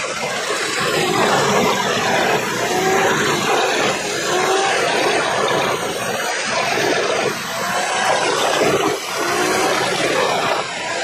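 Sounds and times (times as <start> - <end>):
wood chipper chipping logs: 0.0 - 11.0.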